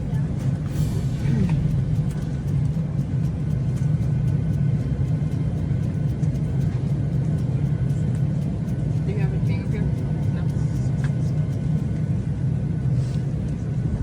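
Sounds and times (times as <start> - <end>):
vehicle cabin rumble: 0.0 - 14.0.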